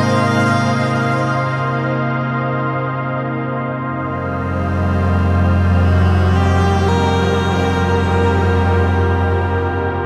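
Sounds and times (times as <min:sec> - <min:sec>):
ambient synth music: 0:00.0 - 0:10.0.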